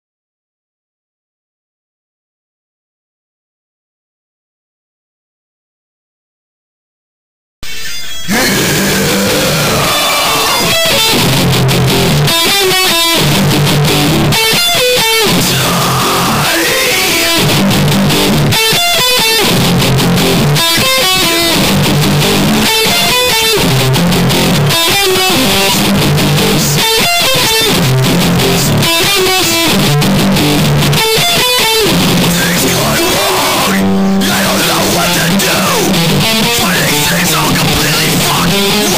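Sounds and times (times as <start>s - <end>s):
electric guitar riff: 7.6s - 38.9s.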